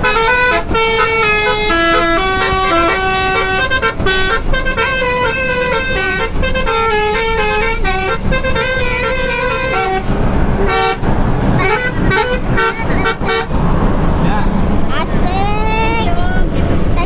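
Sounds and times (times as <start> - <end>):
multi-tone bus horn melody: 0.0 - 14.2
bus engine and road noise: 0.0 - 17.0.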